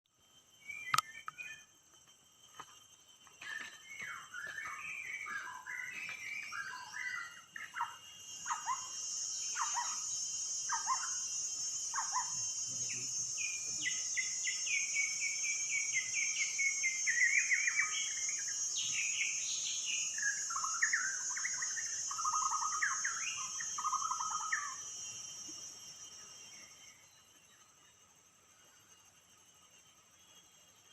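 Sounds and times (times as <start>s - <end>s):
bird singing: 0.1s - 30.9s
high insect drone: 0.1s - 30.9s.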